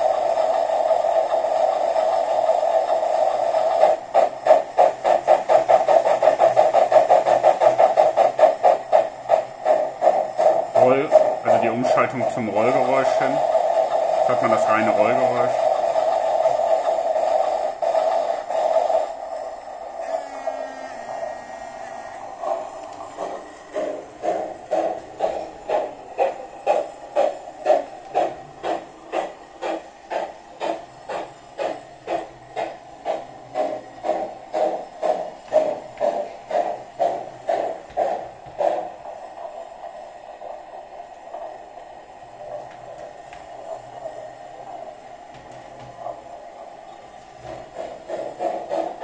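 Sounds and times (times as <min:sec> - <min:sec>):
steady hum: 0:00.0 - 0:49.0
steam locomotive pulses from speaker: 0:00.0 - 0:49.0.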